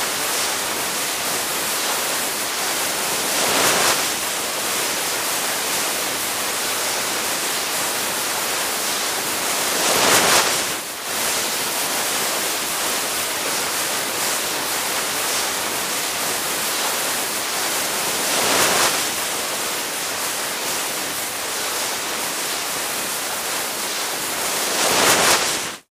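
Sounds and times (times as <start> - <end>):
skis sliding over snow: 0.0 - 25.9.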